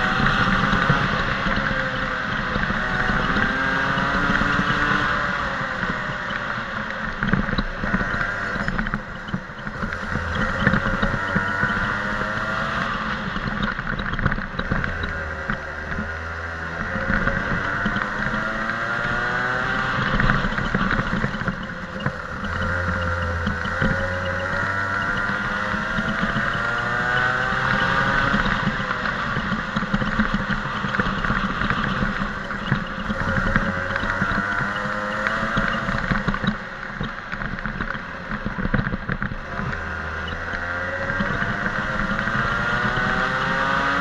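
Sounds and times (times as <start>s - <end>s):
go-kart engine revving: 0.0s - 44.0s.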